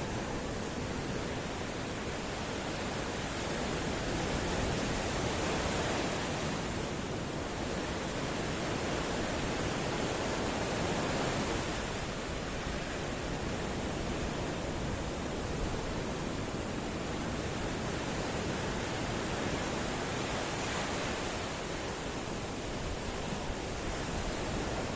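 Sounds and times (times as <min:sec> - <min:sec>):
ocean waves washing on shore: 0:00.0 - 0:24.9.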